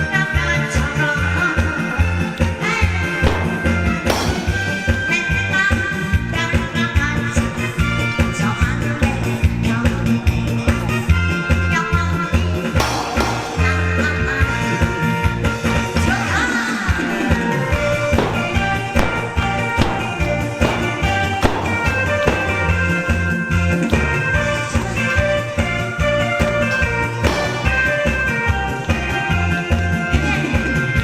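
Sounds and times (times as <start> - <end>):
upbeat music with drum beat: 1.6 - 31.0.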